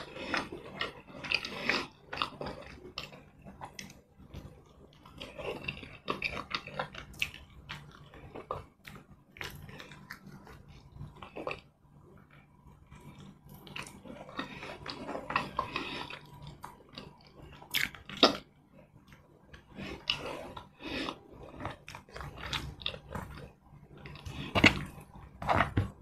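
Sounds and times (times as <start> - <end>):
wet chewing: 0.0 - 11.7, 12.8 - 26.0.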